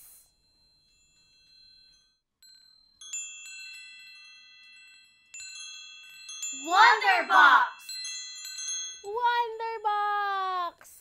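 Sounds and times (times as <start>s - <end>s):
bright metal chimes ringing: 0.0s - 10.0s.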